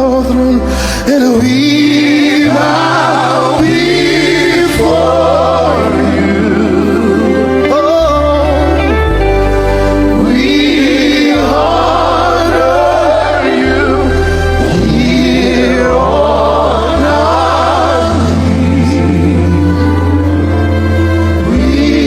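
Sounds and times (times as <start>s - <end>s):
bass and keyboard chords: 0.0s - 22.0s
singers holding wavering lines: 1.4s - 22.0s.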